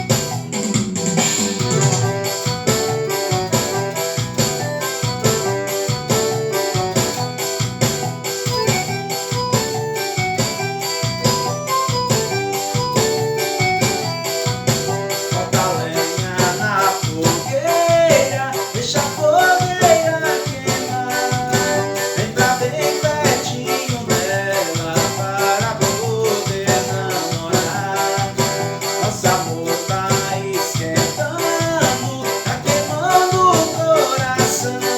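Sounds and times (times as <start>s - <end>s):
keyboard drum and bass accompaniment: 0.0s - 34.9s
keyboard organ-like melody: 0.0s - 34.9s.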